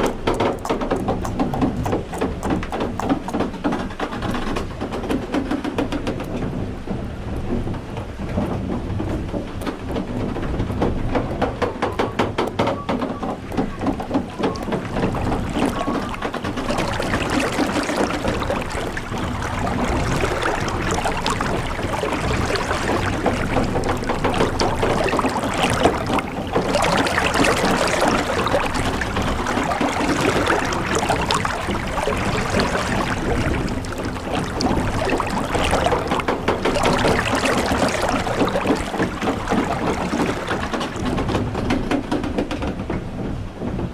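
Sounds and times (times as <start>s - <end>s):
water sloshing and pouring: 0.0s - 7.8s, 8.4s - 42.0s.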